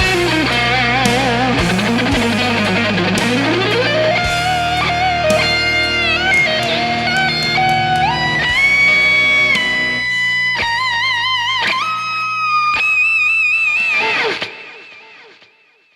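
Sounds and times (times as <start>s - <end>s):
overdriven electric guitar lead: 0.0s - 15.4s.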